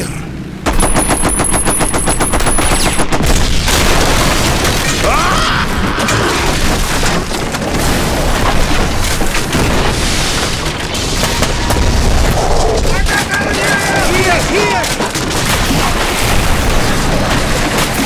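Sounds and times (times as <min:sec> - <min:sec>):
booming explosions: 0:00.6 - 0:18.0
rapid machine-gun fire: 0:00.6 - 0:18.0.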